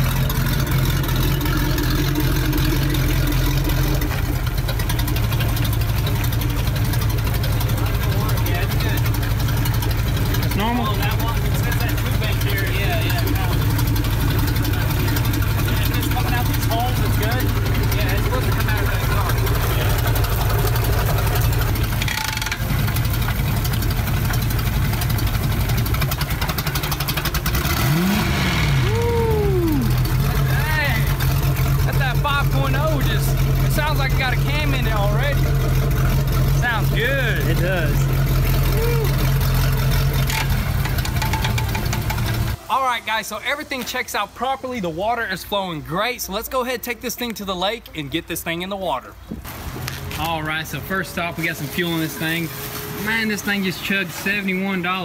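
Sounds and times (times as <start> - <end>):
water spraying: 0.0 - 45.9, 49.4 - 55.0
boat engine idling: 0.0 - 46.2.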